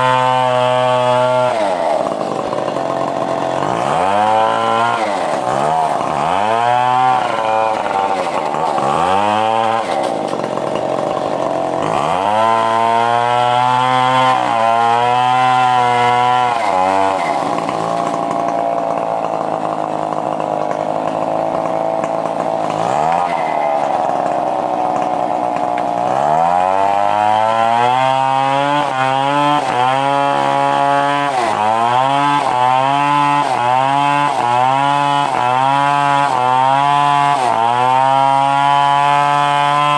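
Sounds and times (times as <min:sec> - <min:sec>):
chainsaw revving while sawing wood: 0:00.0 - 0:39.9.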